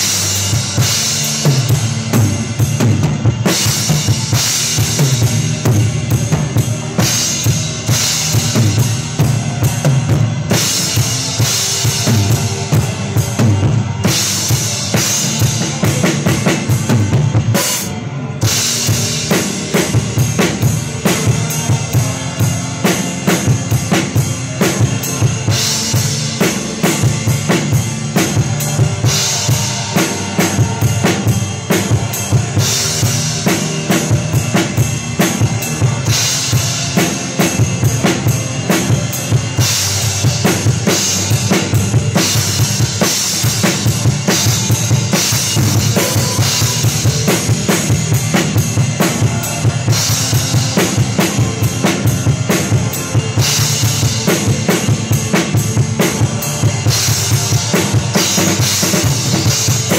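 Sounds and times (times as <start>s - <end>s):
band playing: 0.0s - 59.9s.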